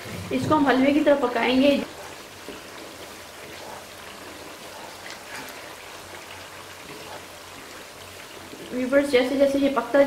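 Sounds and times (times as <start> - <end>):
wooden spatula stirring: 0.0 - 8.9
butter sizzling in a pan: 0.0 - 10.0.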